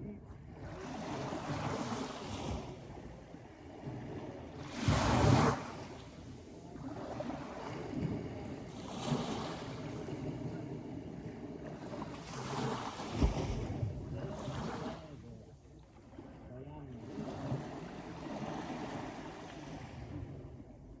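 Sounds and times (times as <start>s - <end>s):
sea surf washing ashore: 0.0s - 21.0s.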